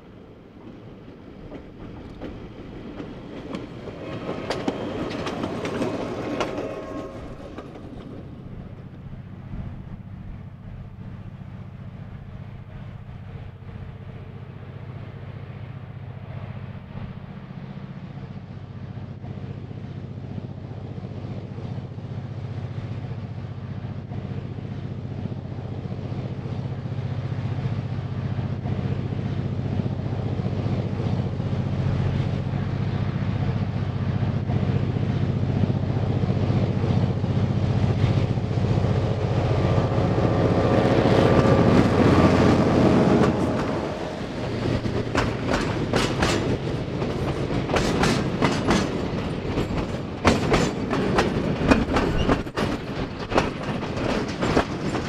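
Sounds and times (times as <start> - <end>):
diesel locomotive engine droning: 0.0 - 55.0.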